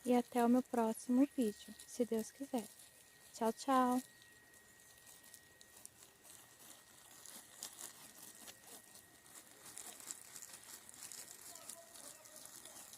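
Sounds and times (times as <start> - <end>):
rustling: 0.0 - 12.9.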